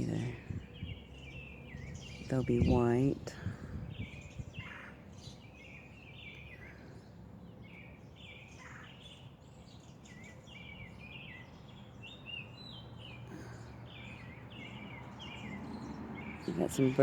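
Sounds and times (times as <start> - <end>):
low steady background hum: 0.0 - 17.0
small birds chirping: 0.0 - 17.0.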